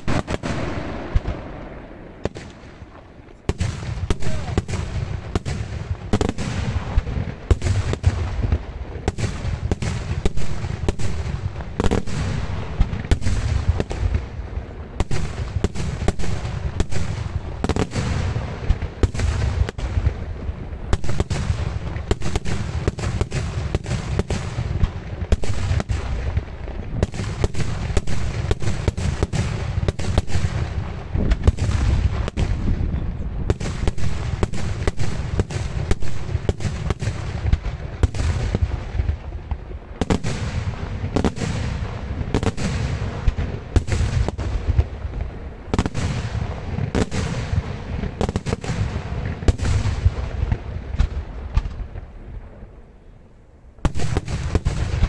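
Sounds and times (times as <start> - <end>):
fireworks bangs and booms: 0.0 - 55.0.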